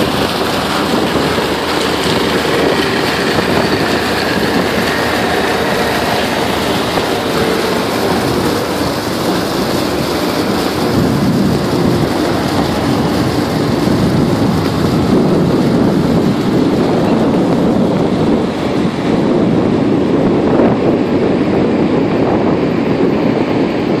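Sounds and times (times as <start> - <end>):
truck engine running: 0.0 - 21.8
wind on microphone: 0.0 - 24.0.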